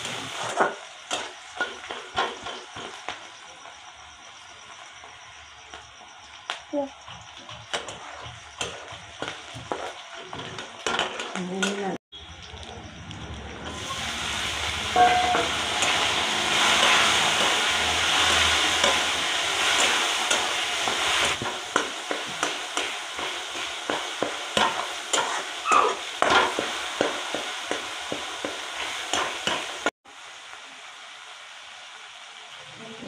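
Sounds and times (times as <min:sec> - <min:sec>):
tomatoes sizzling in oil: 0:00.0 - 0:33.0.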